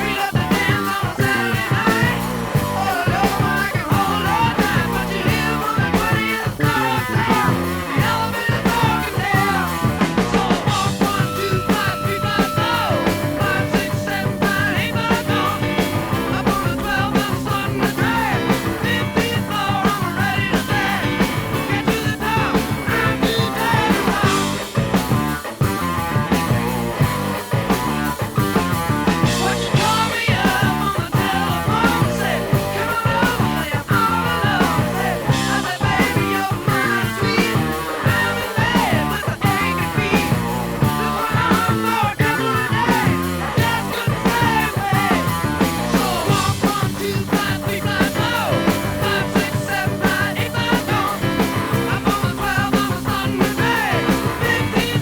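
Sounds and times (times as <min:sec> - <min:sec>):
rock and roll band playing: 0:00.0 - 0:55.0.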